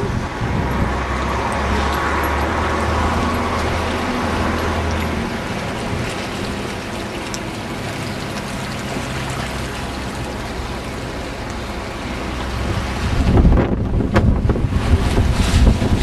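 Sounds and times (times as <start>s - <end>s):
flood water rushing: 0.0s - 16.0s
wind buffeting microphone: 0.0s - 16.0s.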